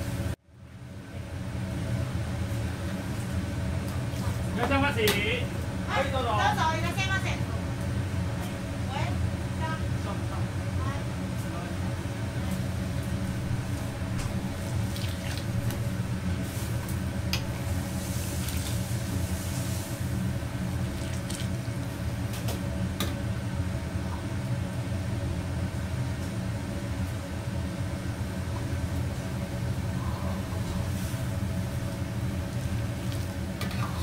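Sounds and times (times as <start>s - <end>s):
gas wok burner rumble: 0.0s - 34.0s.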